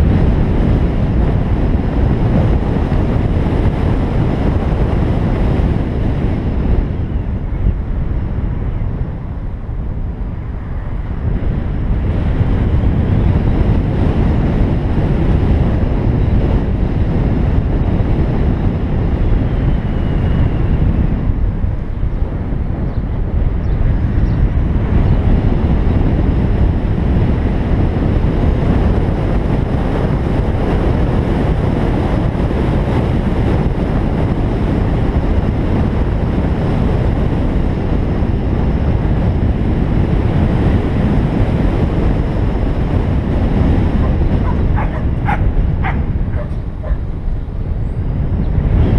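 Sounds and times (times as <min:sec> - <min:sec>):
car road noise: 0:00.0 - 0:48.9
wind rumble on microphone: 0:00.0 - 0:48.9.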